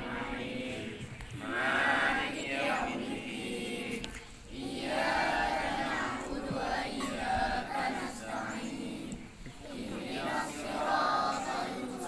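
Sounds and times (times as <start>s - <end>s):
boys chanting devotional songs: 0.0s - 12.0s.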